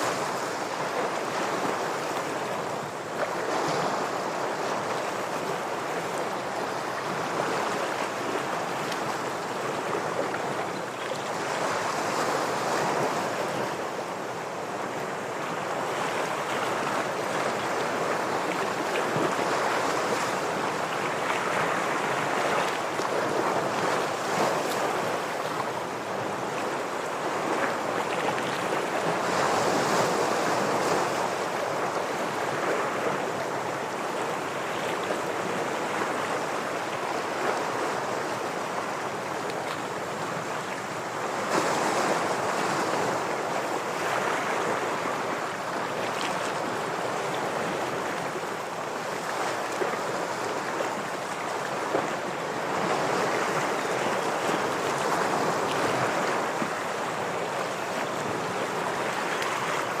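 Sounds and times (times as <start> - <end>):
ocean waves breaking on rocks: 0.0 - 60.0.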